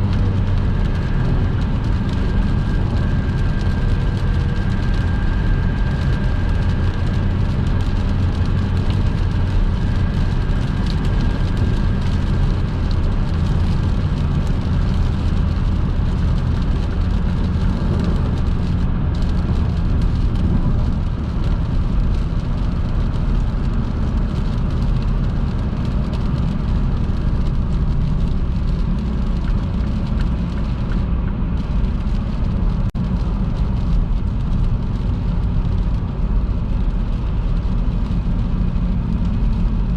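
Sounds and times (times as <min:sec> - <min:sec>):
rain: 0:00.0 - 0:39.9
tyres on wet road: 0:00.0 - 0:39.9.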